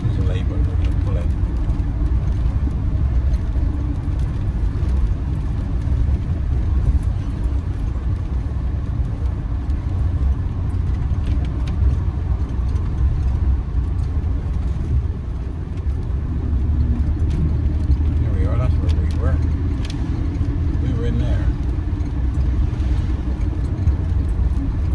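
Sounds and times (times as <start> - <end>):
engine and road noise: 0.0 - 24.9.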